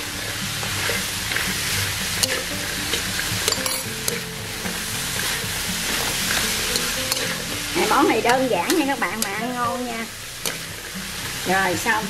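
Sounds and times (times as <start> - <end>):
food sizzling in a wok: 0.0 - 12.0
utensil clicking against pan: 0.7 - 9.6, 10.4 - 11.4.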